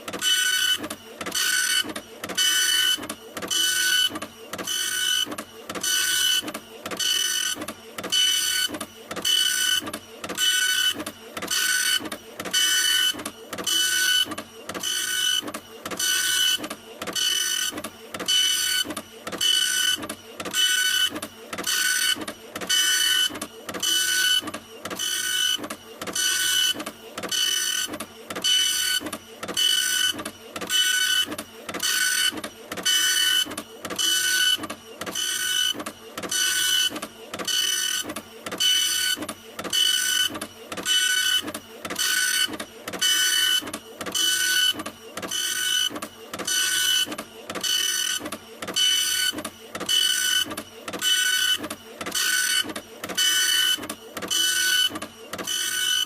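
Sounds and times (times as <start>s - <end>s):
printer whirring: 0.0s - 56.0s.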